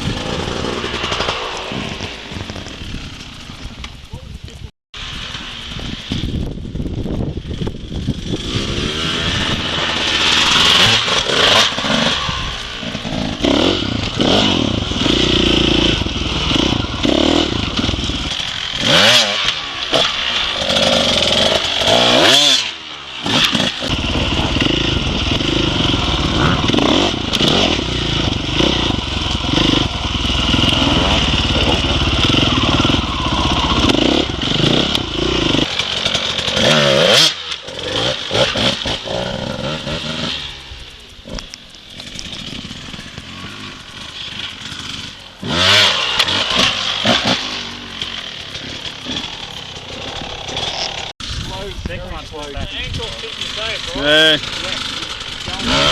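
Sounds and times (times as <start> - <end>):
dirt bike engine revving: 0.0 - 4.1, 5.0 - 55.9.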